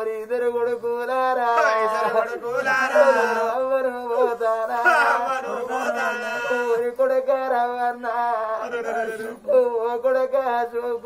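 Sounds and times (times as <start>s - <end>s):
person singing chant-like melody: 0.0s - 11.0s.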